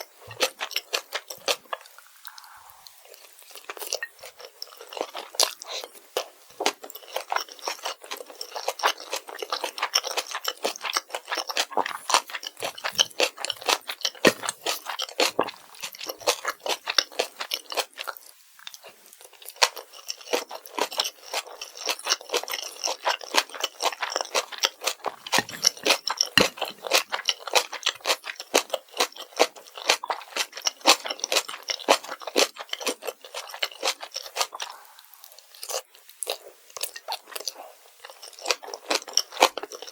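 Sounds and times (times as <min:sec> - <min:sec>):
wet crunchy chewing: 0:00.0 - 0:39.9.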